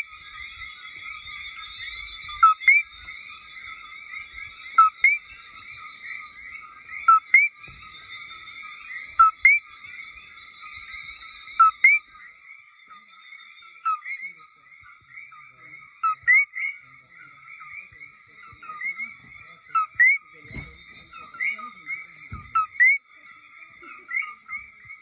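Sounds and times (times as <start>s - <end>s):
chorus of frogs and insects: 0.0s - 25.0s.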